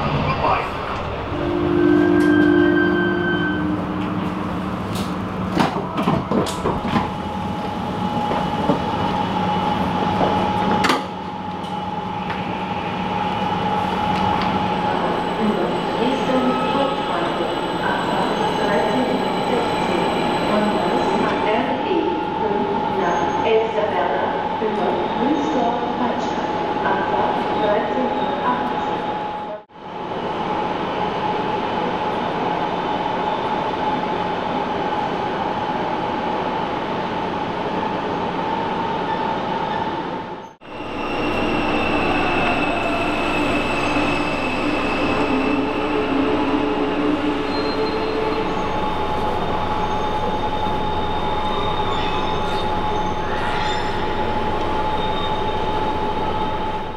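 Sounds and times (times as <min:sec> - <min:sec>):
electric locomotive hum and whine: 0:00.0 - 0:56.9.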